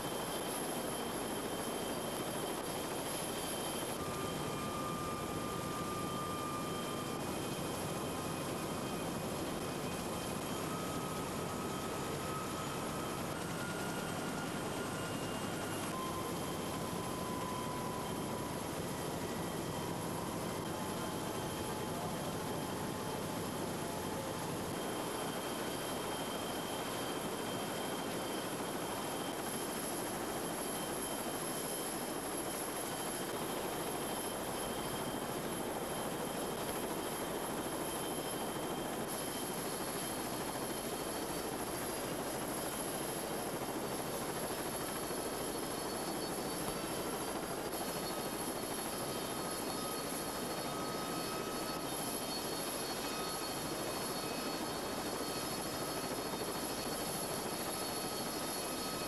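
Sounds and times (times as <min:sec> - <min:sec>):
helicopter turbine engines running: 0:00.0 - 0:59.0
high turbine whines: 0:00.0 - 0:59.0.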